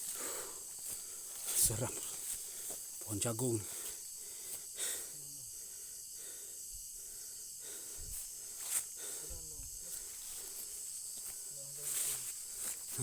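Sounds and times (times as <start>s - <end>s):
night insects droning: 0.0s - 13.0s.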